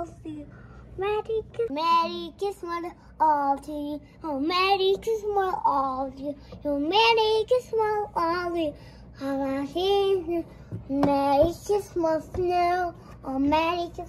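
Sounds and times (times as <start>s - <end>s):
boy singing unaccompanied: 0.0s - 14.0s.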